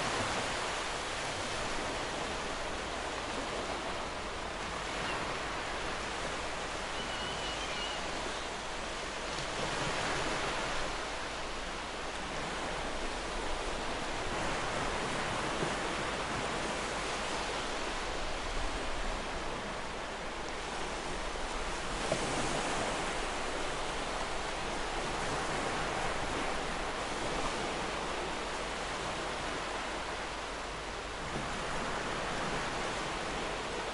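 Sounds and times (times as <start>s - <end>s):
sea waves breaking: 0.0s - 33.9s.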